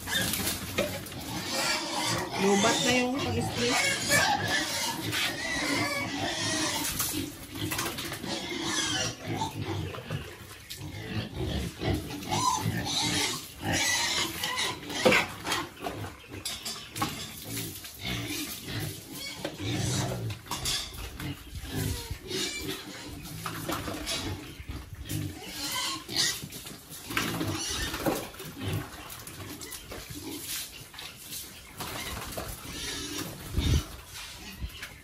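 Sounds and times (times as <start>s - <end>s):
pigs grunting: 0.0s - 35.0s.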